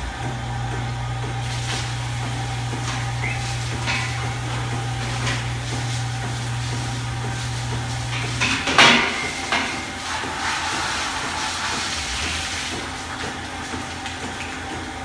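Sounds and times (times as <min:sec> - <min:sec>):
milking machine humming: 0:00.0 - 0:15.0.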